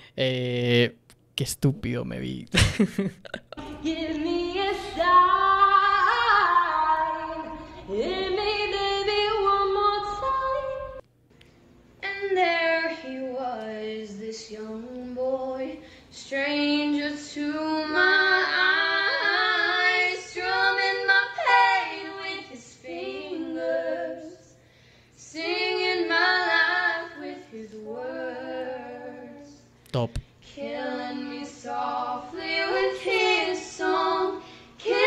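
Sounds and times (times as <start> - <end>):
woman singing unaccompanied: 3.6 - 11.0, 12.0 - 24.5, 25.2 - 29.7, 30.4 - 35.0.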